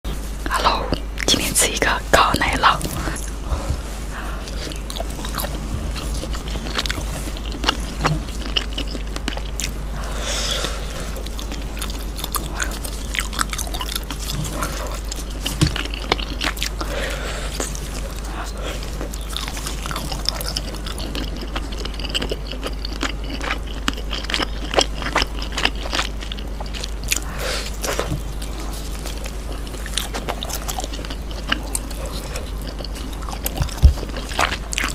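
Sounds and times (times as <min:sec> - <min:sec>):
low steady hum: 0:00.0 - 0:34.9
biting and chewing food: 0:00.1 - 0:01.4, 0:02.2 - 0:34.9.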